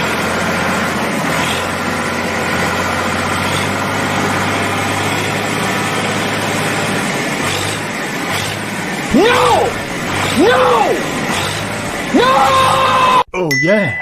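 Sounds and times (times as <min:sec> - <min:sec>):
tractor engine running: 0:00.0 - 0:13.2.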